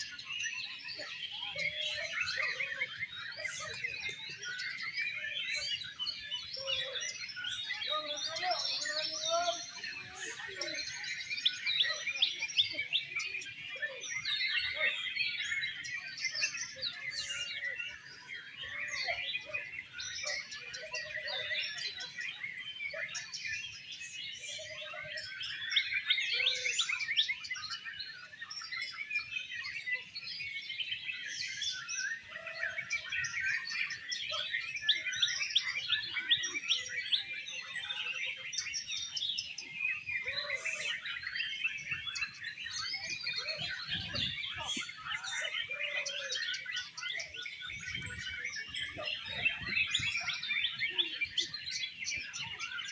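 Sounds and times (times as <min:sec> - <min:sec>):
birds singing: 0:00.0 - 0:52.9.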